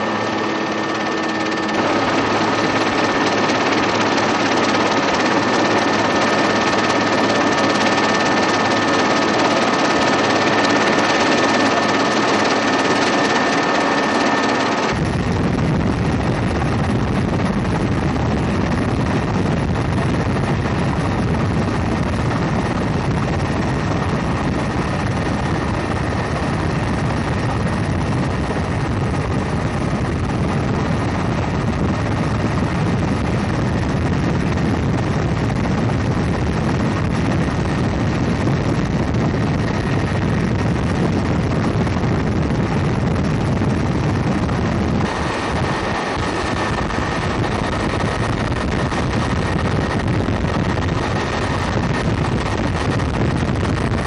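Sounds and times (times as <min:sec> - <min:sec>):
helicopter rotor rumble: 0:00.0 - 0:54.0
helicopter turbine whine: 0:00.0 - 0:54.0.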